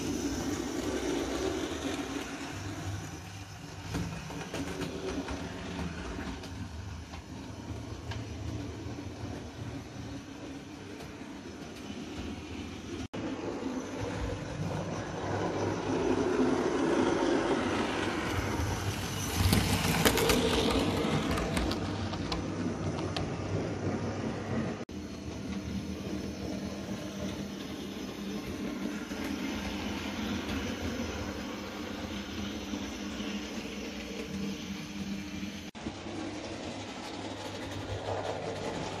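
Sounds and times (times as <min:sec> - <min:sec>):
model train motor hum: 0:00.0 - 0:39.0
wheels rumbling on rail: 0:00.0 - 0:39.0.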